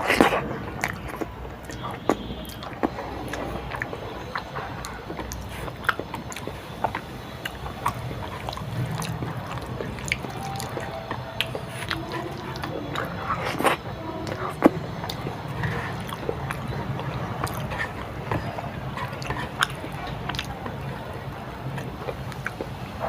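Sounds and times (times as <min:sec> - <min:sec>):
wet mouth clicks and smacks: 0:00.0 - 0:20.9
chewing: 0:00.0 - 0:23.0.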